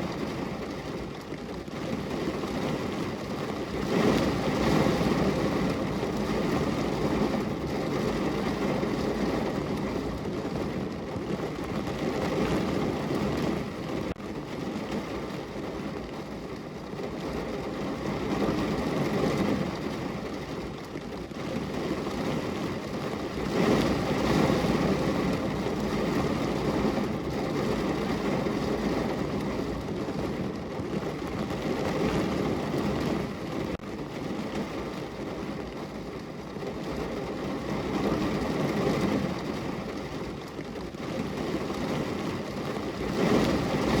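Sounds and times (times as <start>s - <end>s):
heavy rain on car roof: 0.0s - 44.0s.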